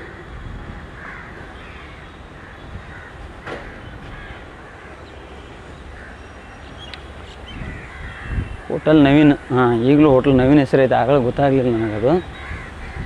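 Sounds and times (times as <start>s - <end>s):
crows cawing: 0.0s - 10.5s, 11.1s - 13.0s.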